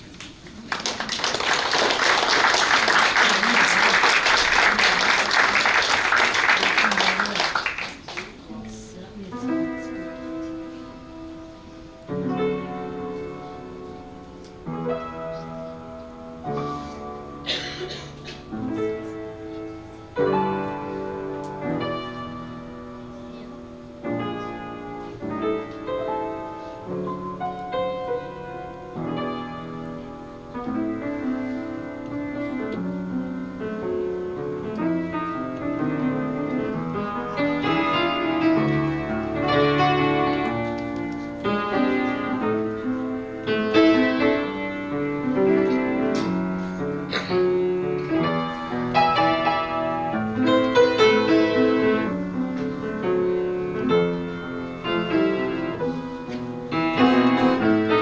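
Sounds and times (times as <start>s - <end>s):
solo piano: 9.3s - 58.0s.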